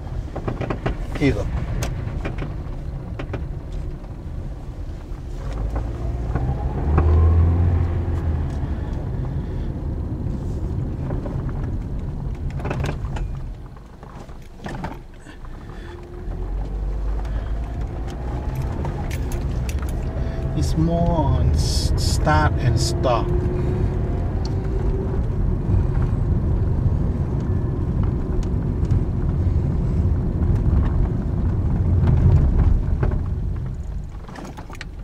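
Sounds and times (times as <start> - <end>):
car engine and road rumble: 0.0 - 35.0
suspension clunks: 0.0 - 35.0.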